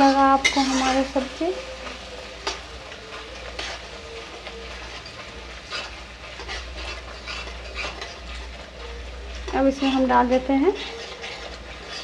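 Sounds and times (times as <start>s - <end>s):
masala paste sizzling in a pan: 0.0s - 12.0s
spatula scraping a metal pan: 0.0s - 12.0s.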